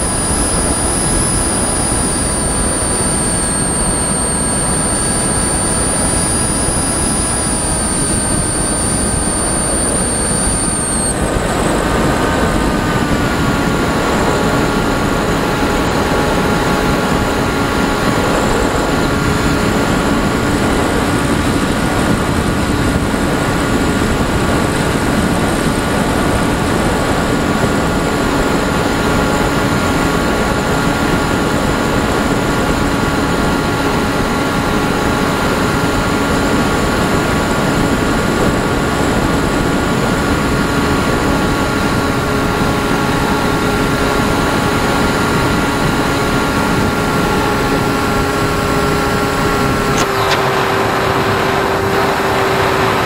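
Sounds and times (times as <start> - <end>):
electric motor whine: 0.0 - 53.0.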